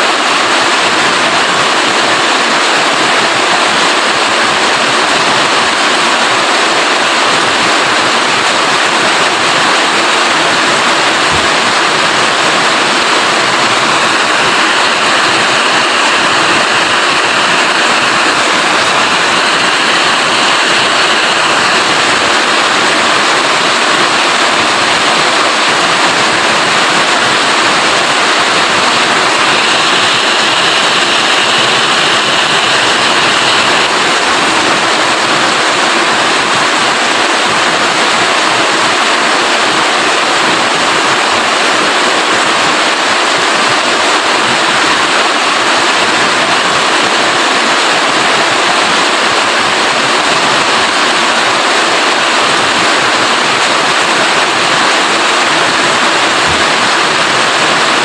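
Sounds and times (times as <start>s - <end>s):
loud rain falling: 0.0s - 58.0s.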